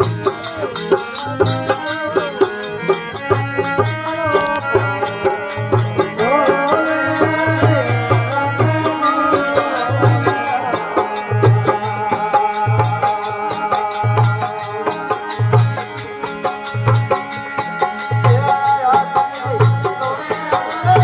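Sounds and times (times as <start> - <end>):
gliding melodic lead: 0.0 - 20.3
hand-drum rhythm: 0.0 - 21.0.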